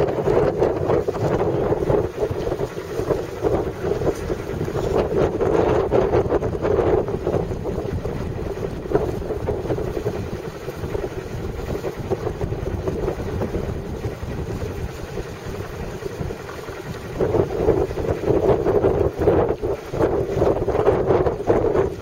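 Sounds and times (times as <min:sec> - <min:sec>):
steady low rumble: 0:00.0 - 0:22.0
wind buffeting microphone: 0:00.0 - 0:22.0.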